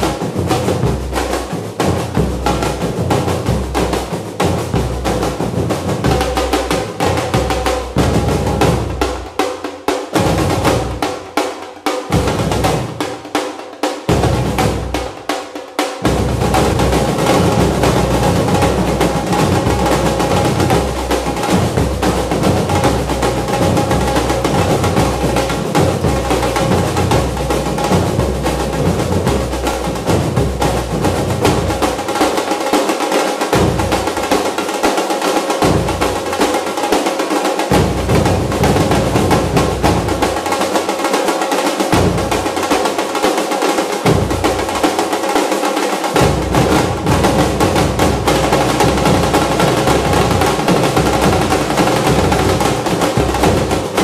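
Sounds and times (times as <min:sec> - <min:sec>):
percussion-heavy music: 0:00.0 - 0:54.0
rapid drum rolls: 0:00.0 - 0:54.0.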